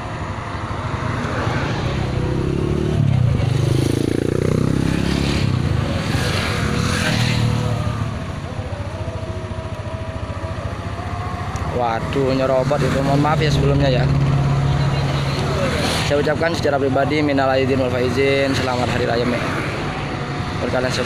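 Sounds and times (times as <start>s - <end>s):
motorbike passing close by: 0.0s - 21.0s
motorcycle engines in traffic: 0.0s - 21.0s.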